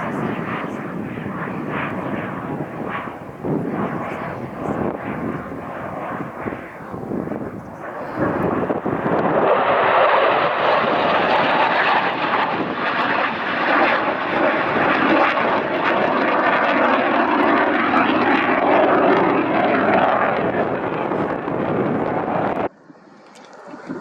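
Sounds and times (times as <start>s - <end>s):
jet flying past: 0.0s - 24.0s.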